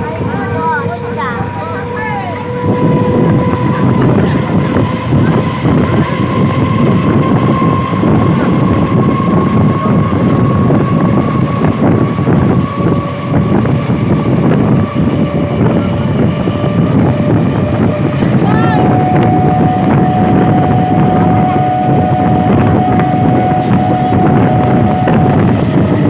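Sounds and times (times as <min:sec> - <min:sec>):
high whine: 0:00.0 - 0:26.0
train rumbling: 0:00.0 - 0:26.0.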